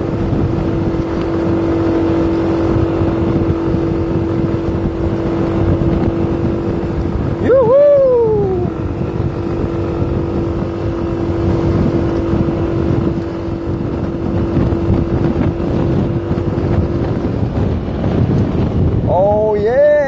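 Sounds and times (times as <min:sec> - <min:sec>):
steady hum: 0:00.0 - 0:20.0
vehicle road and engine noise: 0:00.0 - 0:20.0
wind buffeting microphone: 0:00.0 - 0:20.0.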